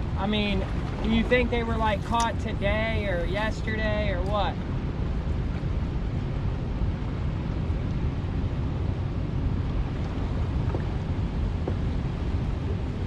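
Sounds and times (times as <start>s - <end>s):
moving water: 0.0s - 13.0s
wind buffeting microphone: 0.0s - 13.0s.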